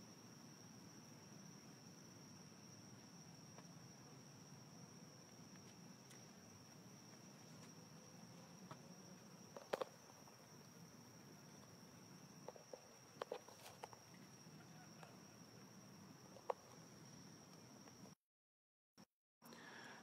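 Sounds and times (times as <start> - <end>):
high-pitched insect trill: 0.0 - 18.2.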